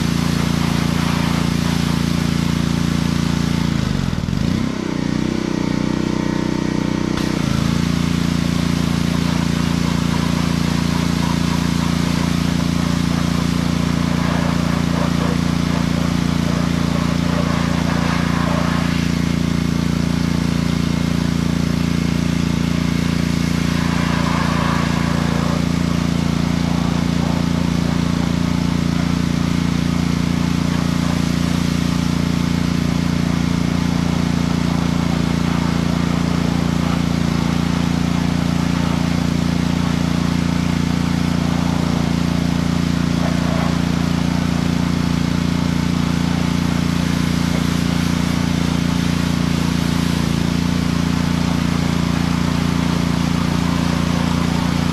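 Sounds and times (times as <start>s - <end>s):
water spray hissing: 0.0s - 4.6s, 5.4s - 54.9s
pressure washer running: 0.0s - 54.9s.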